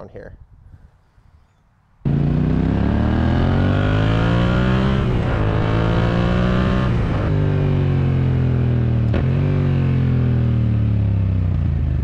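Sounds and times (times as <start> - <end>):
motorcycle engine accelerating: 2.0 - 12.0.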